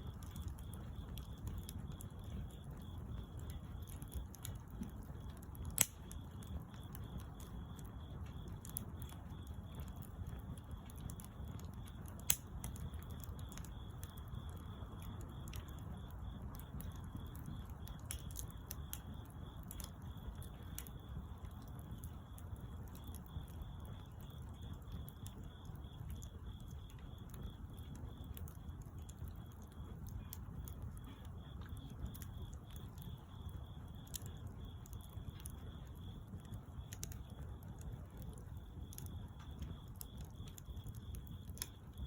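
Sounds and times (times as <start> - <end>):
bonfire burning: 0.0 - 42.0
fire crackling and popping: 0.0 - 42.0.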